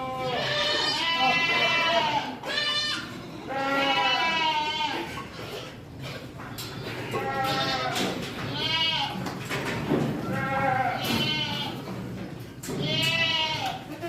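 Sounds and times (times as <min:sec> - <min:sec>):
goat kids bleating: 0:00.0 - 0:05.8, 0:06.6 - 0:09.4, 0:10.2 - 0:11.9, 0:12.7 - 0:14.0.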